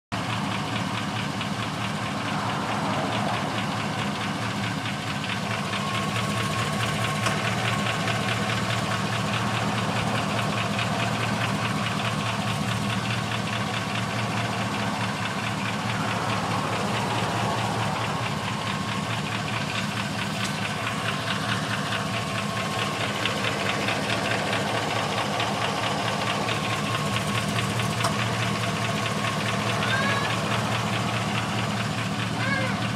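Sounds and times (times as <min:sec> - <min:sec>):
engine idling: 0:00.1 - 0:32.9.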